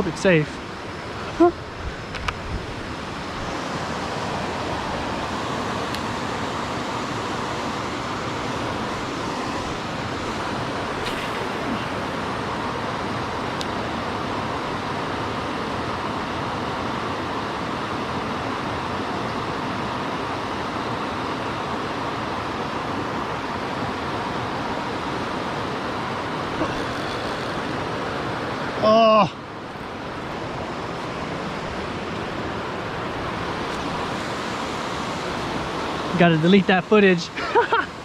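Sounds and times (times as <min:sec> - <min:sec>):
river water rushing: 0:02.6 - 0:28.8, 0:29.4 - 0:38.0.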